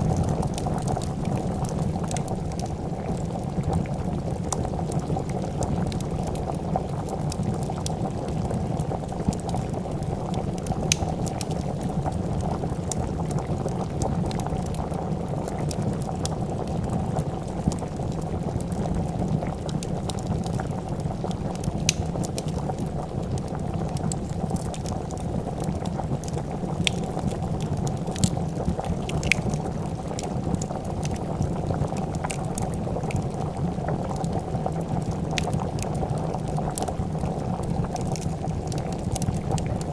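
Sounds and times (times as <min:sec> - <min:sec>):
soup boiling: 0:00.0 - 0:39.9
wood fire crackling: 0:00.0 - 0:39.9.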